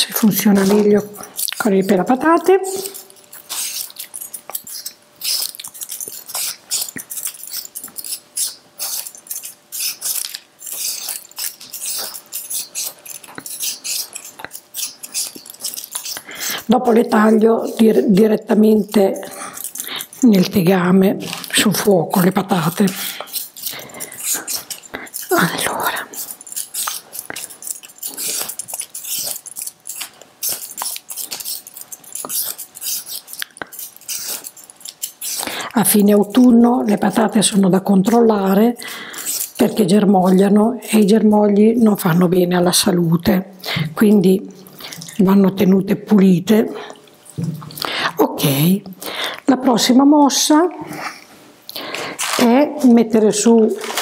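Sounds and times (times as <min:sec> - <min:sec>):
peeler scraping potato skin: 0:00.0 - 0:51.1, 0:51.7 - 0:54.0.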